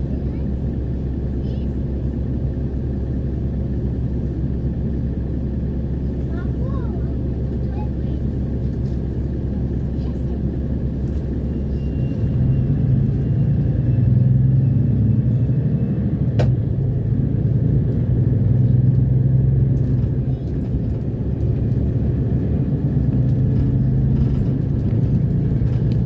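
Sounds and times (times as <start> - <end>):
bus engine rumbling: 0.0 - 26.0.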